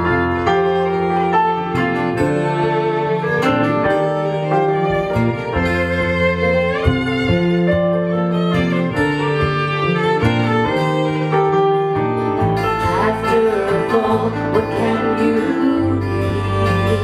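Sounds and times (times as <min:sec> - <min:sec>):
electric bass: 0:00.0 - 0:17.0
fiddle melody: 0:00.0 - 0:17.0
strummed acoustic guitars: 0:00.0 - 0:17.0.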